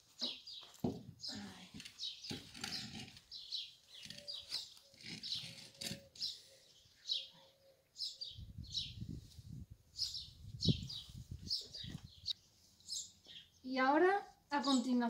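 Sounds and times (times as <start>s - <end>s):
small bird chirping: 0.2s - 15.0s.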